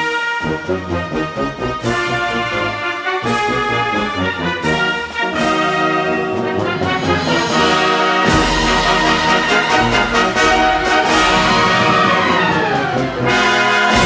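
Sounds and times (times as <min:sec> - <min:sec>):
military brass band playing: 0:00.0 - 0:14.0.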